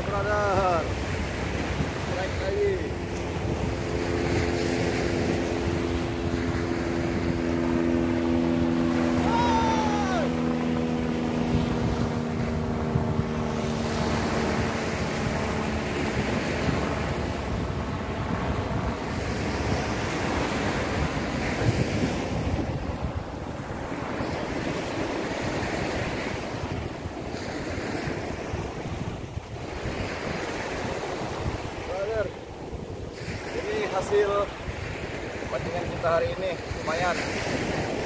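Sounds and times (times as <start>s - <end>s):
boat engine drone: 0.0s - 38.0s
surf washing onto shore: 0.0s - 38.0s
wind on microphone: 0.0s - 38.0s.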